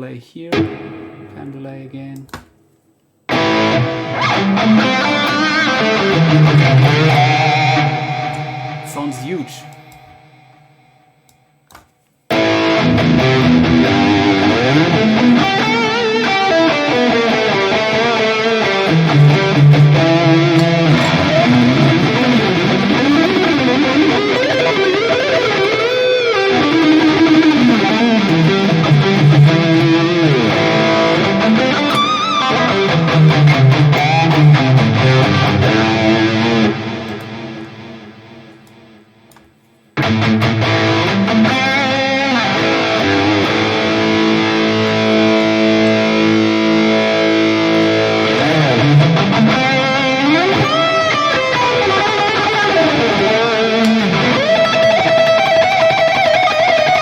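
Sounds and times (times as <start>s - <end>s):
distorted electric guitar lead: 0.5s - 2.5s, 3.3s - 11.5s, 12.3s - 39.4s, 40.0s - 57.0s.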